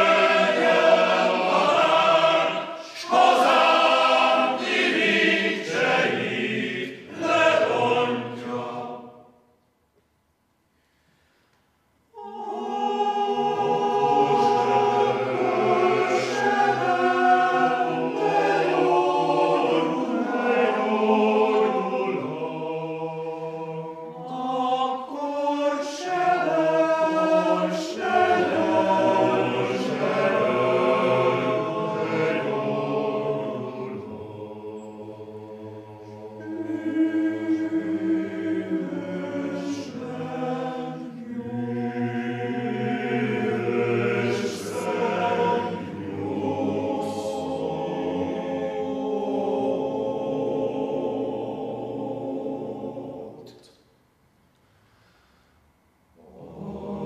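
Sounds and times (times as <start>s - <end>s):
male choir singing unaccompanied: 0.0s - 9.3s, 12.1s - 53.6s, 56.2s - 57.0s.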